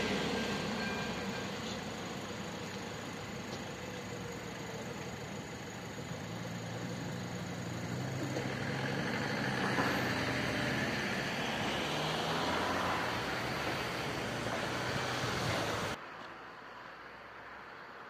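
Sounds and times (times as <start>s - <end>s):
lorry and car engines: 0.0s - 18.0s.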